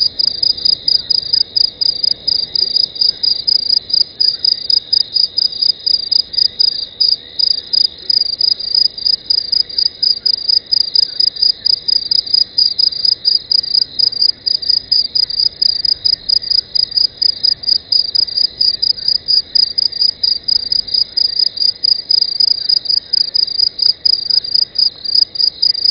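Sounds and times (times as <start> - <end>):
insect chirping: 0.0 - 25.9.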